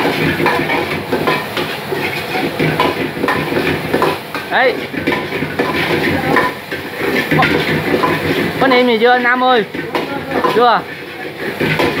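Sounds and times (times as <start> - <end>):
metal ladle scraping a wok: 0.0 - 12.0
rice sizzling: 0.0 - 12.0.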